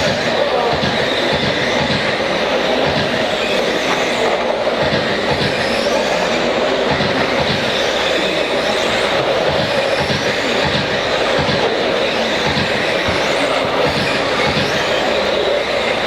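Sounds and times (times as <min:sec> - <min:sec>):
whine of electric toy truck motors: 0:00.0 - 0:16.0.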